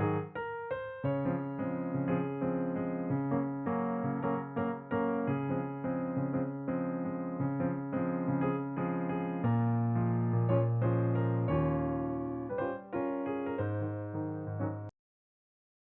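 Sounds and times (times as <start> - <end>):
piano music: 0.0 - 14.9.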